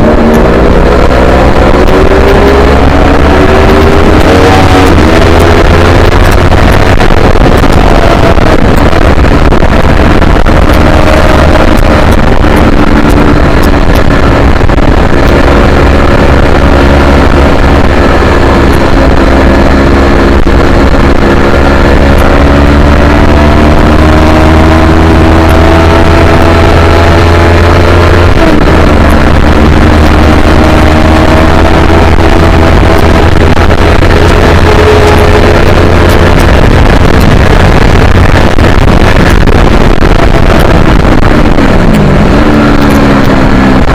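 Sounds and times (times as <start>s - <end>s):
heavy low rumble: 0.0s - 43.9s
motorcycle engine running hard: 0.0s - 43.9s.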